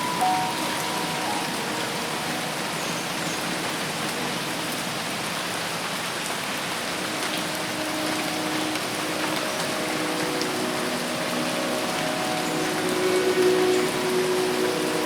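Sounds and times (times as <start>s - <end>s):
rain on foliage: 0.0s - 15.0s.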